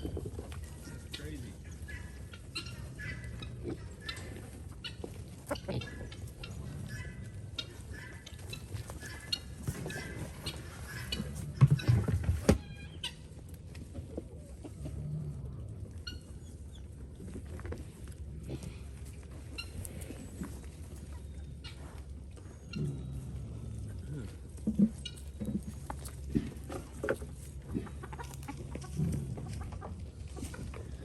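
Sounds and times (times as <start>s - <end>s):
low animal sounds: 0.0s - 31.0s.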